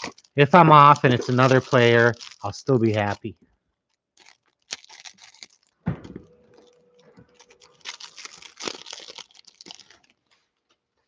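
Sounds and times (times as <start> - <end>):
cards rustling: 0.0 - 3.3, 4.2 - 10.5
plastic wrapper crinkling and tearing: 0.0 - 11.0.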